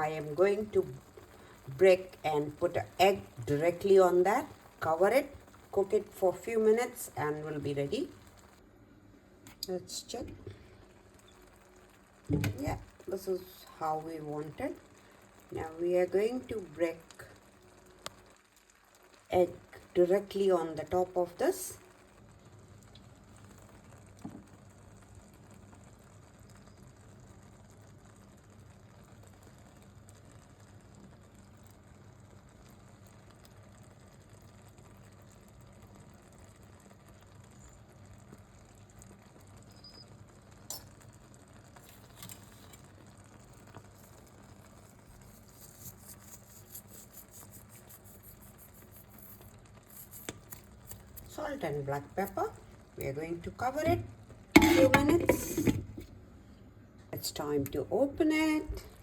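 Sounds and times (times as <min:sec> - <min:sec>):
pan simmering with crackling: 0:00.0 - 0:59.0.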